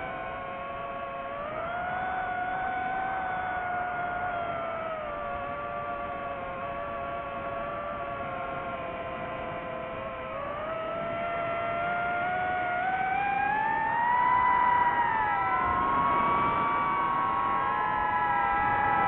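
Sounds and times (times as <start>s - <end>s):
drone electric motors whining: 0.0s - 19.0s.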